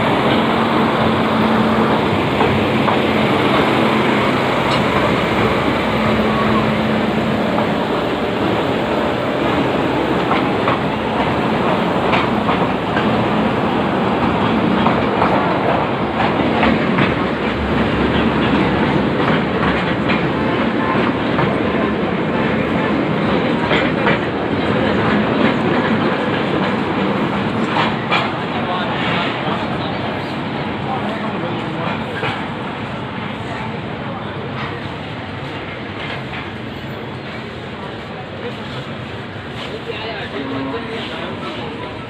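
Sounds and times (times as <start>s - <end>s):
train wheels clattering on rails: 0.0s - 42.0s.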